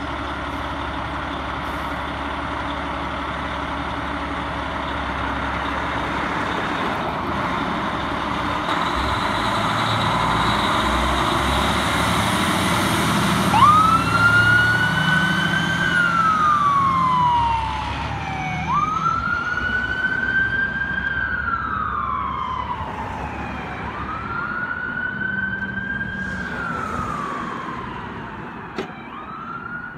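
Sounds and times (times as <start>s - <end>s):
fire engine siren wailing: 0.0s - 29.9s
truck engine rumbling: 0.0s - 29.9s.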